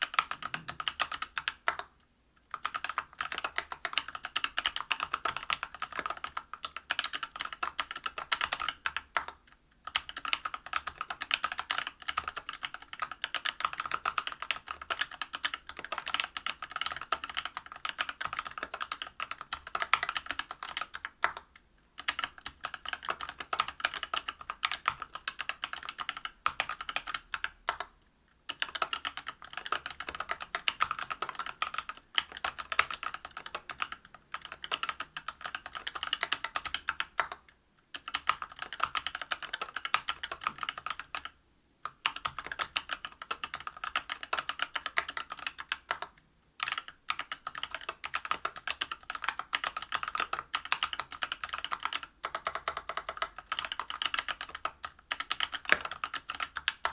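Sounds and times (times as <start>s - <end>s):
mechanical keyboard typing: 0.0s - 1.9s, 2.5s - 27.9s, 28.5s - 56.9s.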